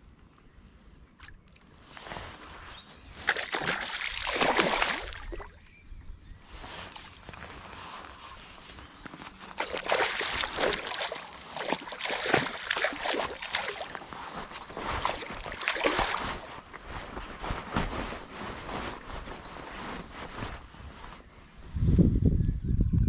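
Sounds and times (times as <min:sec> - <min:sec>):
water splashing and sloshing: 0:01.1 - 0:05.8, 0:06.5 - 0:20.6.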